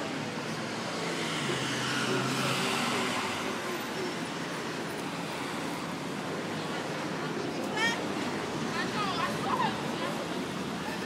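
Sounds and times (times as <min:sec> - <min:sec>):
city street traffic: 0:00.0 - 0:11.0
faint voices: 0:00.0 - 0:11.0.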